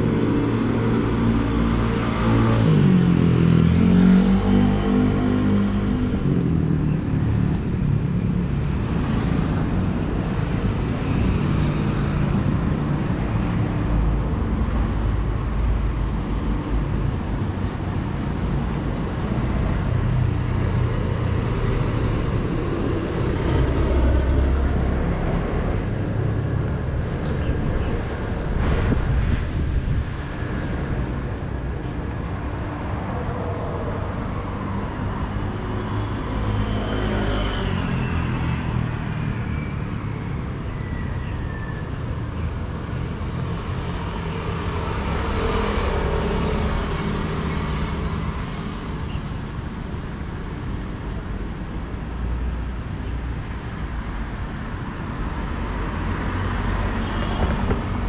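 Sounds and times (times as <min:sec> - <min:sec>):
cars driving past: 0:00.0 - 0:51.4.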